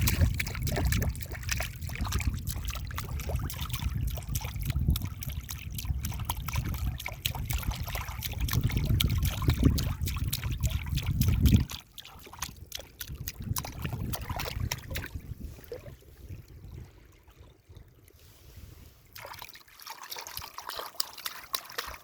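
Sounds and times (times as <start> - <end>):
stream trickling over stones: 0.0 - 18.1, 19.0 - 22.0.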